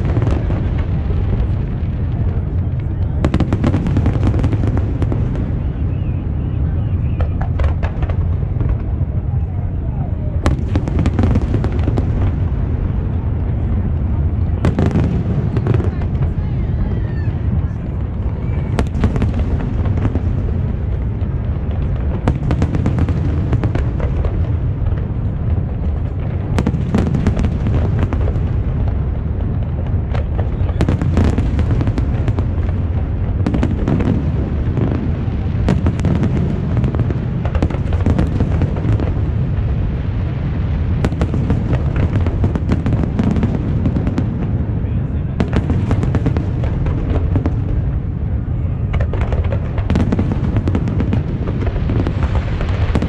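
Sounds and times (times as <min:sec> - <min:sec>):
firework bangs and crackles: 0:00.0 - 0:53.0.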